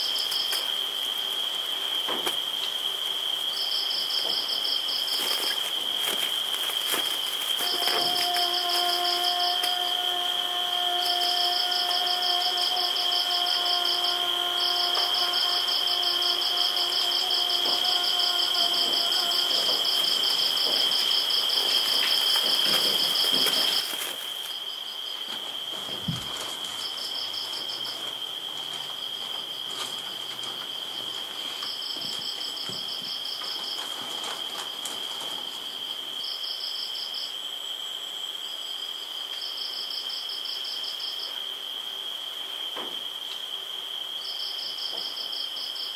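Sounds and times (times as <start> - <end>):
insects trilling and chirping: 0.0 - 45.9.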